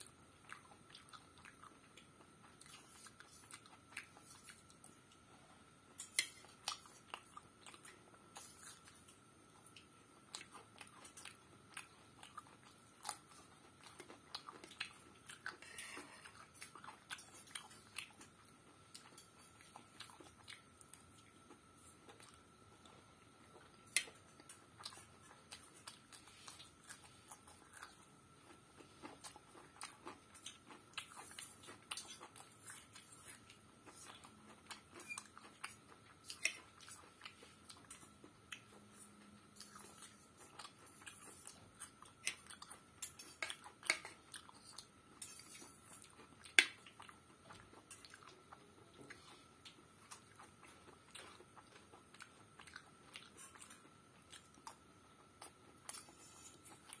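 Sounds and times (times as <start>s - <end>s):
chewing and mouth sounds: 0.0s - 57.0s.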